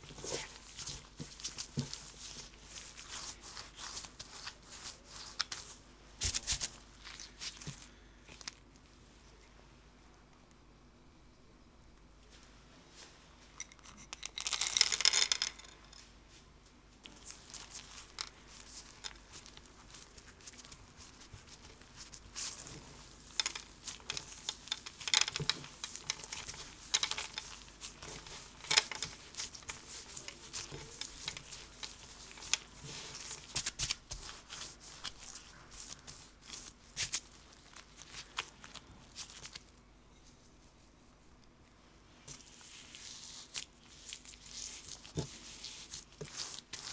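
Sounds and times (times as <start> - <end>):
hands kneading dough: 0.0 - 10.6, 12.2 - 46.9.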